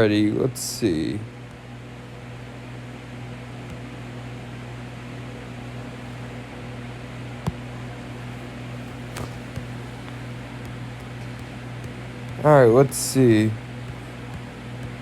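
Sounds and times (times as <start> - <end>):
low fan hum: 0.0 - 15.0.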